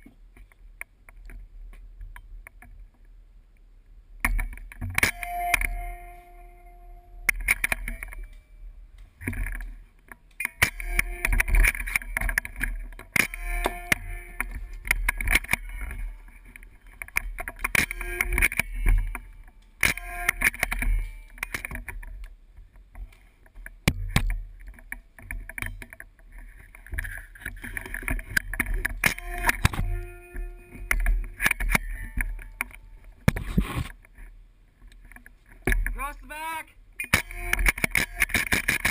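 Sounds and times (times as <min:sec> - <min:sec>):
sharp clicks and knocks: 0:04.2 - 0:06.4, 0:07.2 - 0:08.4, 0:09.0 - 0:36.1, 0:37.0 - 0:38.9
wind noise: 0:04.3 - 0:36.0.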